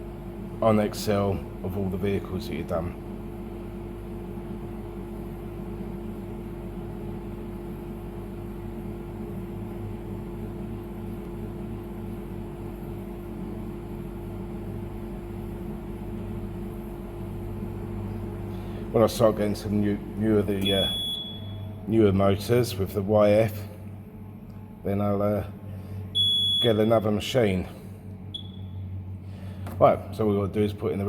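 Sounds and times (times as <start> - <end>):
compressor humming: 0.0 - 31.0.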